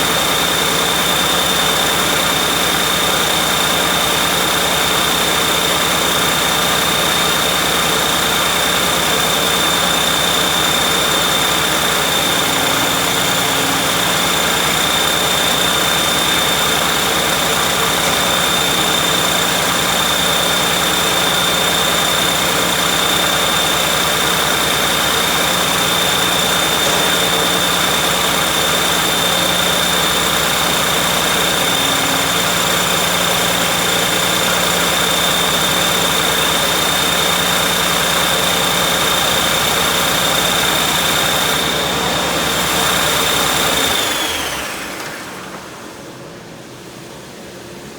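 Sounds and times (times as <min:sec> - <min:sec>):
diesel engine idling: 0:00.0 - 0:46.8
high whine: 0:05.3 - 0:47.9.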